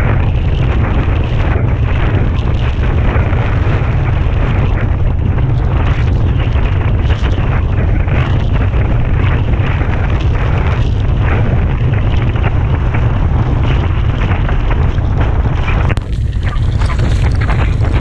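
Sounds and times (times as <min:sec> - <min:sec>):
choppy water slapping: 0:00.0 - 0:18.0
strong wind buffeting microphone: 0:00.0 - 0:18.0.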